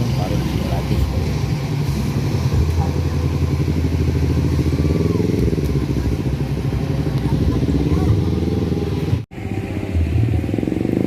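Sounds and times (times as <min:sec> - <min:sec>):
vehicle engines droning: 0:00.0 - 0:11.0.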